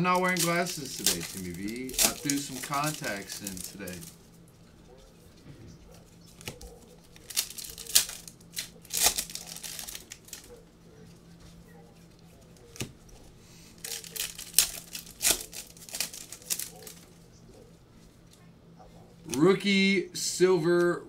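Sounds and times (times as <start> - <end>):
foil wrappers crinkling and tearing: 0.0 - 17.6.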